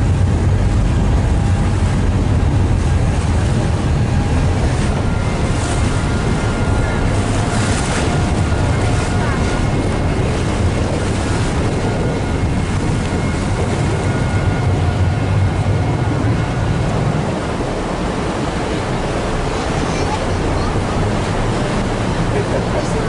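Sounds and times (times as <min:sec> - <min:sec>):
ferry engine rumble: 0:00.0 - 0:23.0
water wash: 0:00.0 - 0:23.0
wind buffeting microphone: 0:00.0 - 0:23.0.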